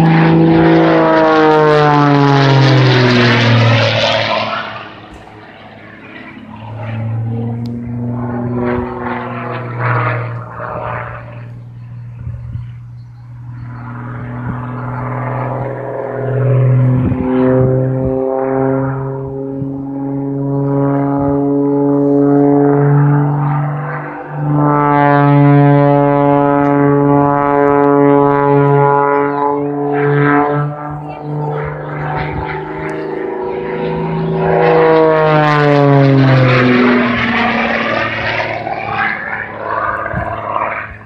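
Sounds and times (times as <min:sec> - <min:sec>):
propeller plane engine drone: 0:00.0 - 0:41.0.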